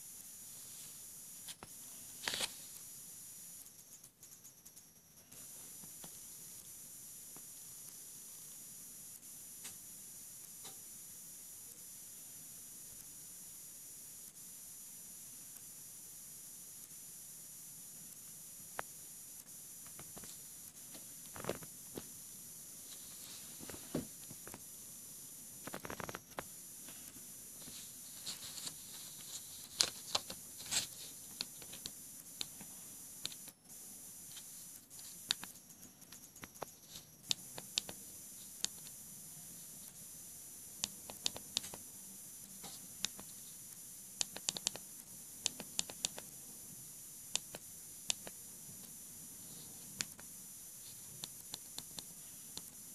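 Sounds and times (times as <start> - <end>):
steady hiss: 0.0 - 52.9.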